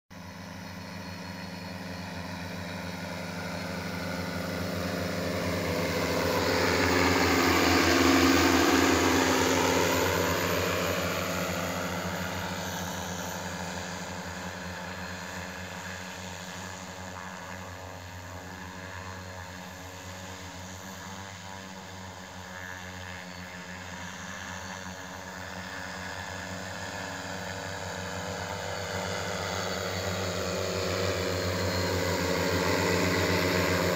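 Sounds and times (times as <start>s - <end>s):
drone propellers buzzing: 0.2s - 33.9s.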